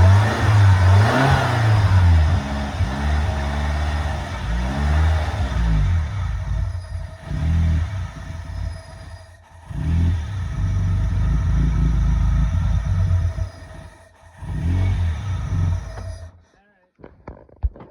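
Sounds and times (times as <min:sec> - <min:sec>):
engine idling roughly: 0:00.0 - 0:16.4.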